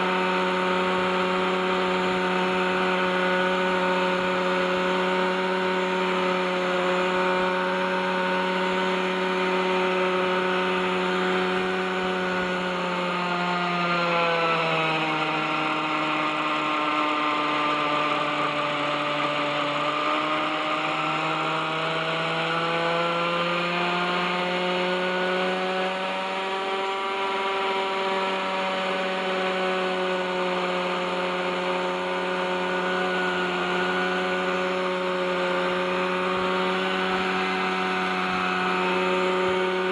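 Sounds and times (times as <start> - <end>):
model helicopter engine hovering: 0.0 - 39.9.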